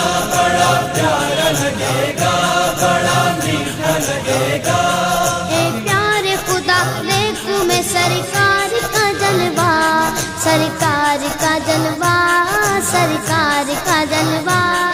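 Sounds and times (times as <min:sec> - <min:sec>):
voices chanting devotional melody: 0:00.0 - 0:14.9.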